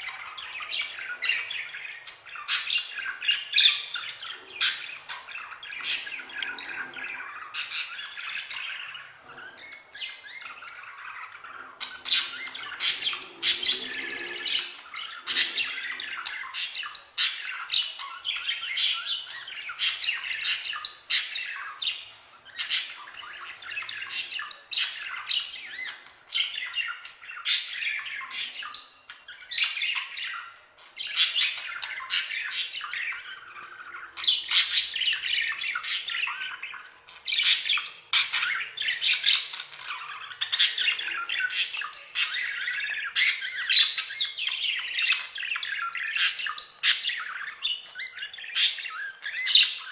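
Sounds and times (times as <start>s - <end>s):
budgerigars chattering and warbling: 0.0s - 49.9s
sharp bird chirps and squawks: 0.0s - 49.9s.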